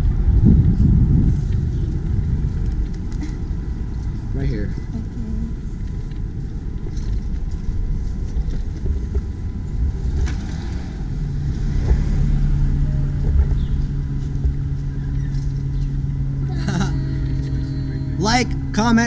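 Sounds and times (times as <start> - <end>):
engine hum: 0.0 - 19.0
street and vehicle rumble: 0.0 - 19.0.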